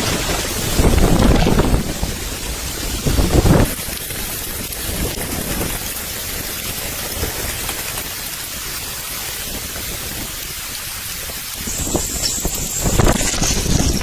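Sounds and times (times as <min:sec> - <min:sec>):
fine rain-like patter: 0:00.0 - 0:14.0
wind through forest: 0:00.0 - 0:14.0.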